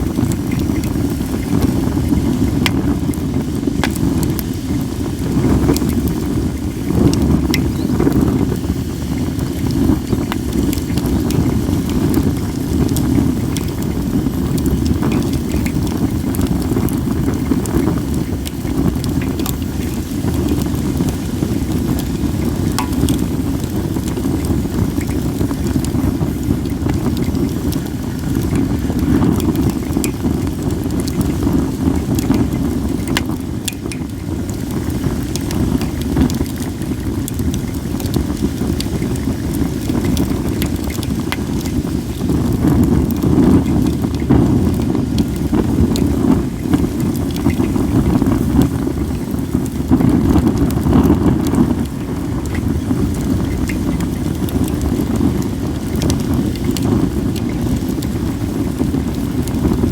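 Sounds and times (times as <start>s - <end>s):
wind on microphone: 0.0s - 59.9s
wood fire crackling: 0.0s - 59.9s.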